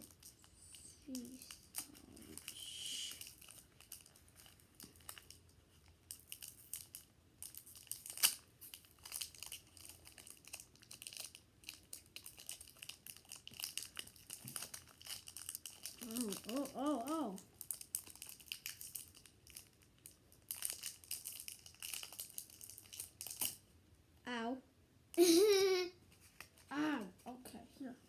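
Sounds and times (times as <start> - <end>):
foil wrapper crinkling and crackling: 0.0 - 23.6.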